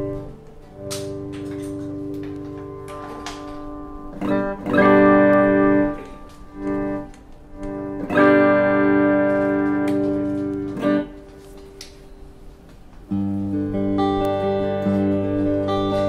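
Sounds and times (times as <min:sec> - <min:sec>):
electric guitar chords ringing: 0:00.0 - 0:16.0
electric guitar single notes: 0:00.0 - 0:16.0.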